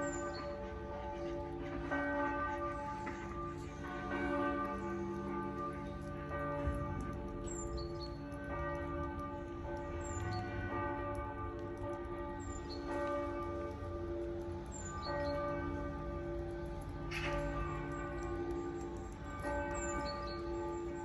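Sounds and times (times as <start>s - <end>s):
church bell tolling: 0.0s - 21.0s.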